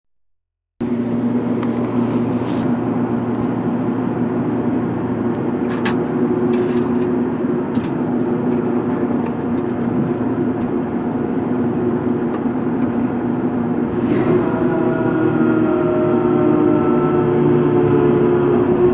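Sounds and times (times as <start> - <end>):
heavy machinery engine running: 0.8 - 18.9.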